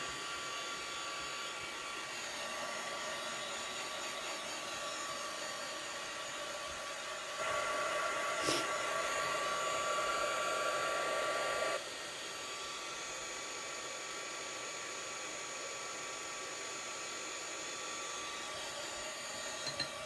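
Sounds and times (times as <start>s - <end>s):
hair dryer motor whine: 0.0s - 20.0s.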